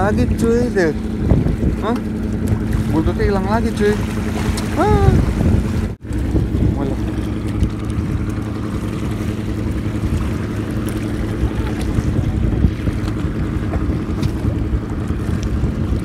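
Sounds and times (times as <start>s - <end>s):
boat engine humming: 0.0s - 16.0s
water noise: 0.0s - 16.0s.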